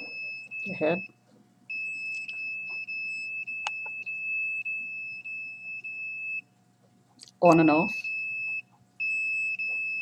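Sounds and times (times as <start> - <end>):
detector alarm high-pitched tone: 0.0 - 6.5, 7.6 - 10.0.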